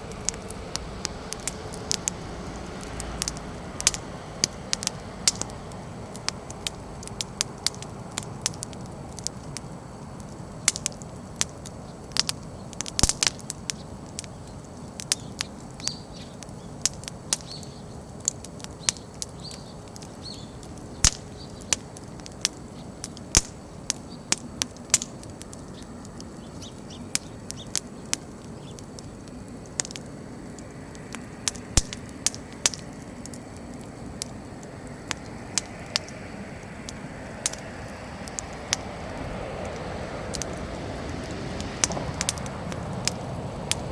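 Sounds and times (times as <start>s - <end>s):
firewood crackling and popping: 0.0s - 43.9s
low rush of flame: 0.0s - 43.9s.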